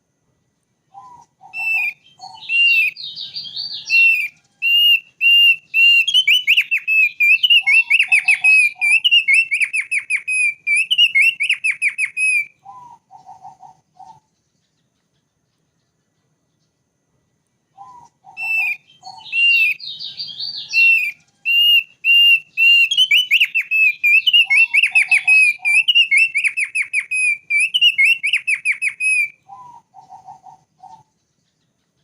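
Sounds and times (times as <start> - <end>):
bird twittering song: 0.0 - 32.0.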